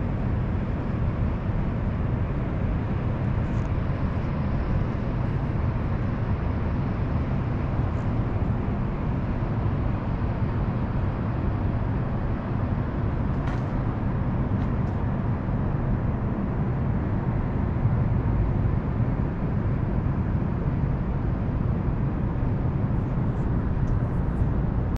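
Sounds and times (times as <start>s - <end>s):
city traffic rumble: 0.0s - 24.9s.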